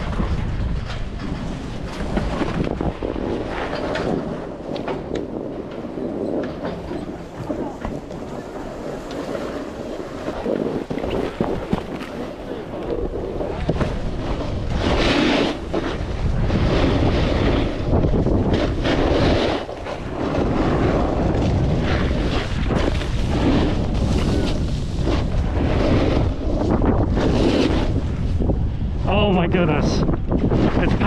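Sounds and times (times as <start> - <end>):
snowboard sliding through snow: 0.0 - 28.6
wind rushing over microphone: 0.0 - 31.0.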